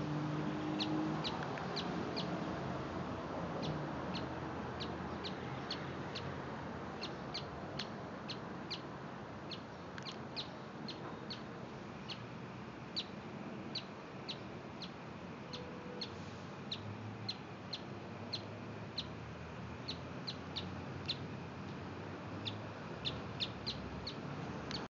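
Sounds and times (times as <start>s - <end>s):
small birds chirping: 0.3s - 2.6s, 3.6s - 19.2s, 19.8s - 21.3s, 22.3s - 24.9s.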